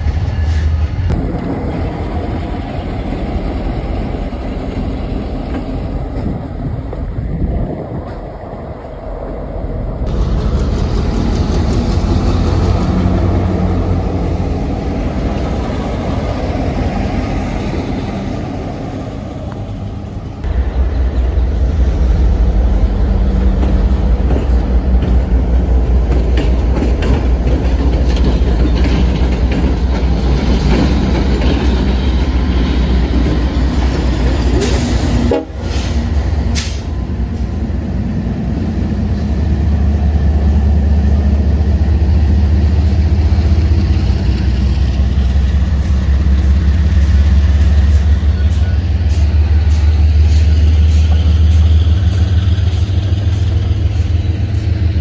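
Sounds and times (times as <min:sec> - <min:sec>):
train rumble with rail clatter: 0:00.0 - 0:55.0.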